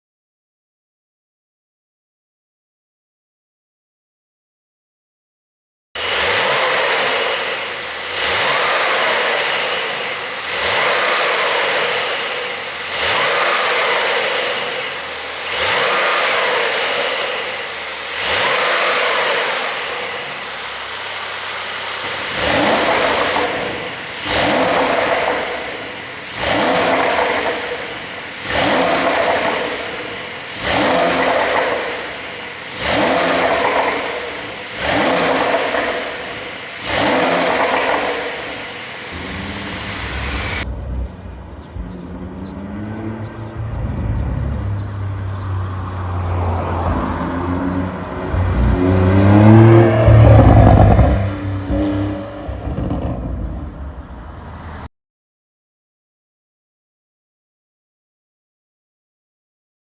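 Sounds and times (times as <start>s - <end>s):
car engine revving: 6.0s - 54.9s.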